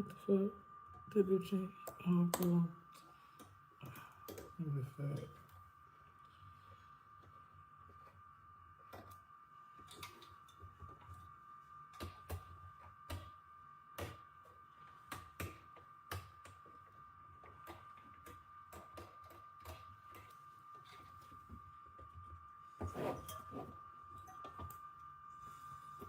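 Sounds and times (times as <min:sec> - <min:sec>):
faint high-pitched whine: 0:00.0 - 0:26.0.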